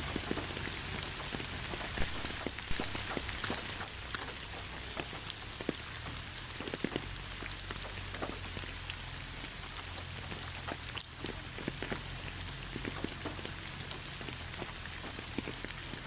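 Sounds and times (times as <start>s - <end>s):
constant low rumble: 0.0s - 16.0s
rain drops ticking on a surface: 0.0s - 16.0s.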